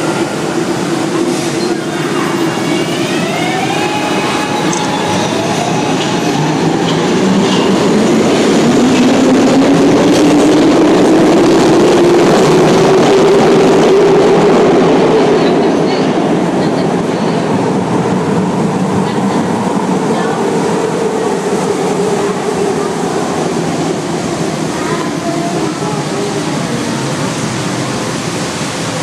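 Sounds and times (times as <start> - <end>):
wheels rumbling on rail: 0.0 - 29.0.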